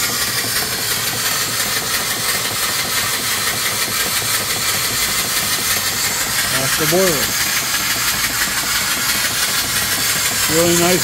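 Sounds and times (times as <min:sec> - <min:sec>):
exhaust steam hissing: 0:00.0 - 0:11.0
steam engine running: 0:00.0 - 0:11.0.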